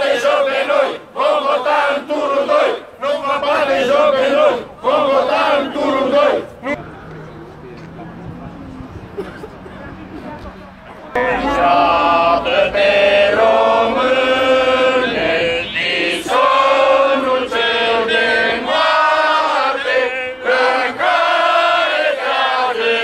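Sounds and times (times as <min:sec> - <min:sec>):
crowd chanting slogans: 0:00.0 - 0:06.8, 0:11.1 - 0:23.0.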